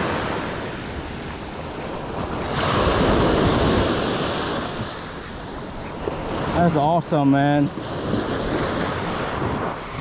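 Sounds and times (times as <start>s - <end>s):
small waves breaking on sand: 0.0s - 10.0s.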